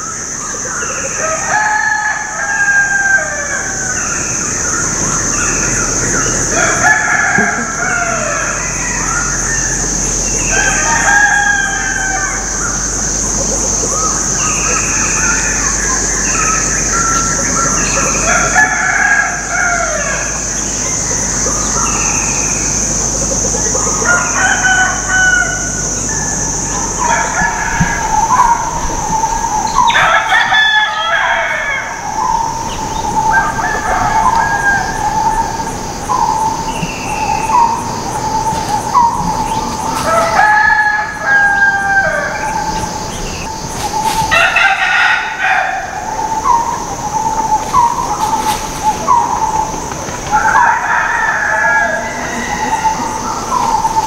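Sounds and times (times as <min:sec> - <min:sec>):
high-pitched drone: 0:00.0 - 0:54.0
wild bird calls: 0:00.0 - 0:54.0
rooster crowing: 0:01.1 - 0:36.5, 0:39.4 - 0:47.2, 0:50.3 - 0:54.0.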